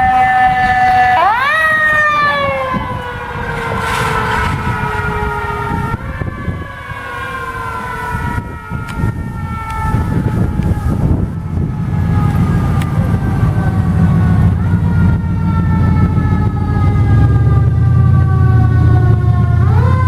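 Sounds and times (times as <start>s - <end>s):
fire truck siren wailing: 0.0s - 20.0s
road noise: 0.0s - 20.0s
truck engine rumble: 0.0s - 20.0s.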